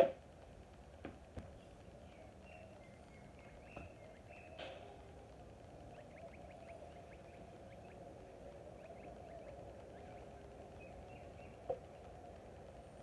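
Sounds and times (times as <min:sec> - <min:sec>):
small birds chirping: 0:01.2 - 0:13.0.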